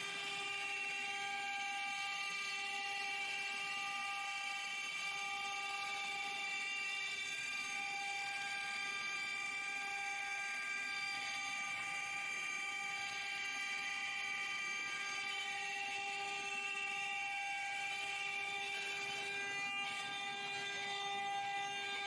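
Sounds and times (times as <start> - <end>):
engraving machine high whine: 0.0 - 22.0.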